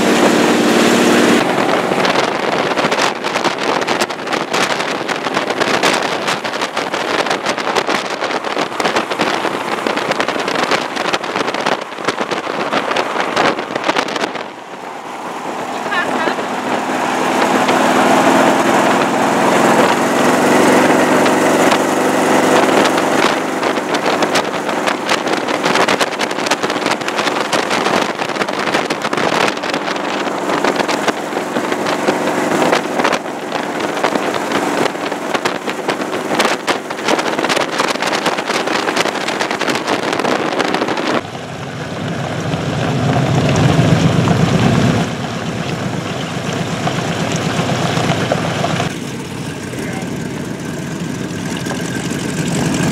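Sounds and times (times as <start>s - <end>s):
v eight engine cruising: 0.0s - 52.9s
wind buffeting microphone: 0.0s - 52.9s.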